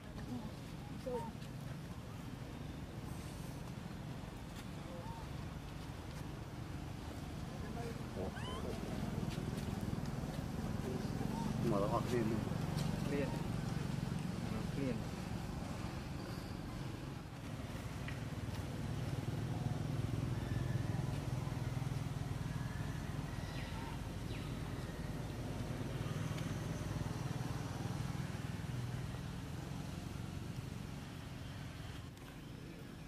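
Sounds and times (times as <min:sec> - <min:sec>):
low outdoor rumble: 0:00.0 - 0:33.0.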